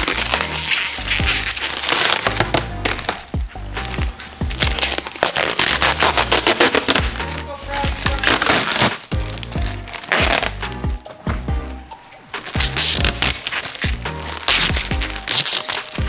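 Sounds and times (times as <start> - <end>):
crackly percussion: 0.0 - 16.0
music with deep bass: 0.0 - 16.0.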